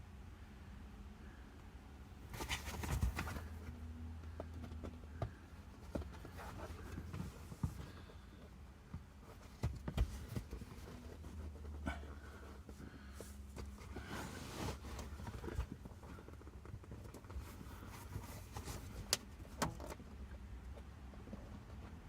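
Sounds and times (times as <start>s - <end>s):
rustling: 2.2s - 22.0s.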